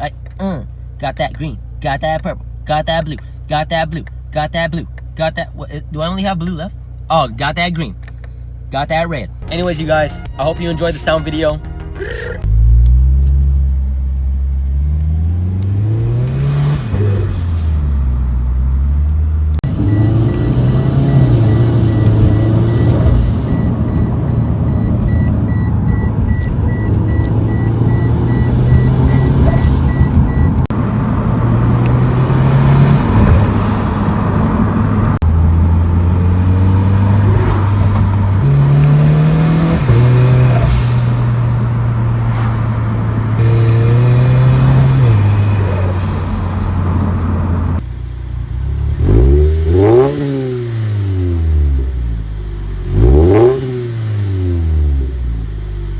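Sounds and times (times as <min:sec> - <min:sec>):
car engine and exhaust: 0:00.0 - 0:55.9
engine revving: 0:09.4 - 0:47.9, 0:48.5 - 0:55.4.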